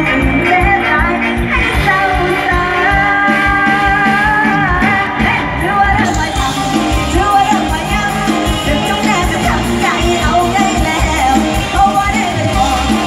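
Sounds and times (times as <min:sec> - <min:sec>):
live band music over sound system: 0:00.0 - 0:13.0
steady drum beat: 0:01.8 - 0:13.0.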